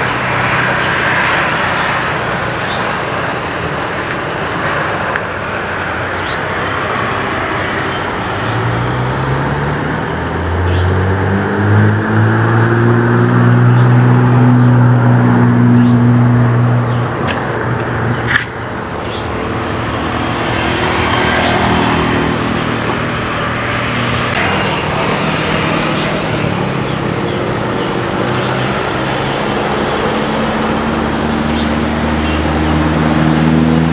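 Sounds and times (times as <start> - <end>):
rumbling vehicle engine: 0.0 - 33.9.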